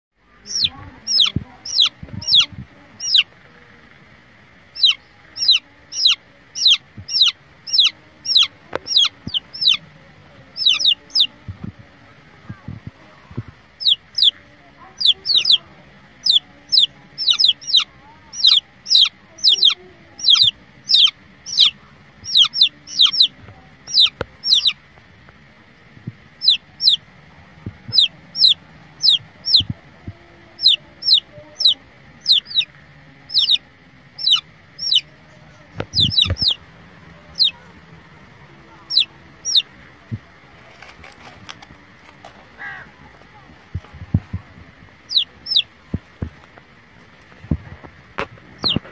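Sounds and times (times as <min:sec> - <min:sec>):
chicks peeping: 0:00.4 - 0:04.0, 0:04.6 - 0:11.9, 0:12.5 - 0:24.8, 0:26.0 - 0:48.9.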